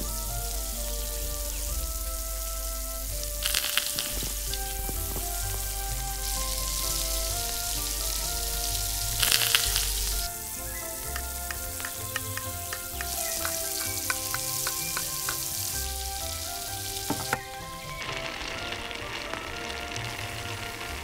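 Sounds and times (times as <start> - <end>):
soft background music: 0.0 - 21.0
food sizzling in a pan: 3.4 - 21.0.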